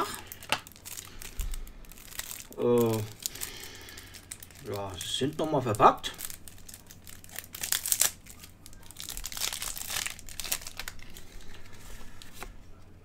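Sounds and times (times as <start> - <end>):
wrapping crinkling and tearing: 0.0 - 12.6.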